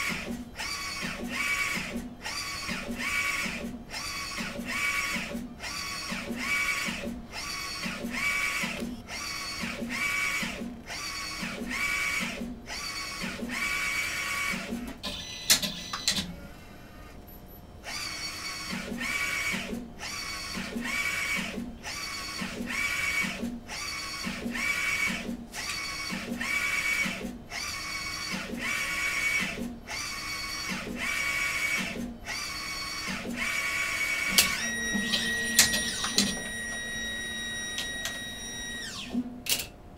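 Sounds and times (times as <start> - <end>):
printer carriage motor whining: 0.0 - 17.2, 17.8 - 39.3.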